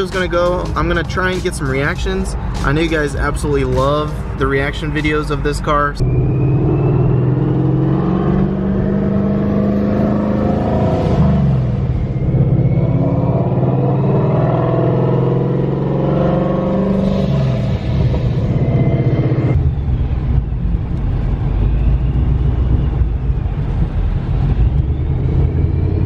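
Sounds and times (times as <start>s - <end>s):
car engine and exhaust rumble: 0.0s - 26.0s.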